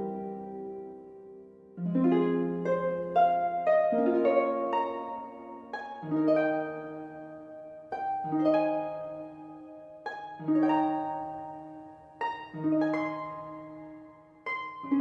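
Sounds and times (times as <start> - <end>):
plucked string arpeggios: 1.8 - 15.0.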